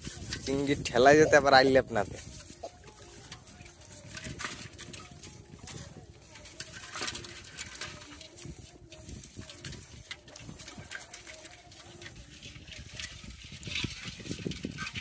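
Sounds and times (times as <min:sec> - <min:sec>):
net trap rustling: 0:00.0 - 0:15.0
prawns and fish flicking in water: 0:02.2 - 0:15.0.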